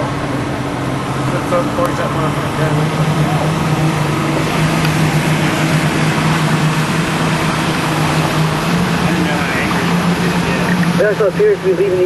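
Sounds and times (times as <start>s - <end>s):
motorboat engine running: 0.0s - 12.0s
rush of wind and water: 0.0s - 12.0s.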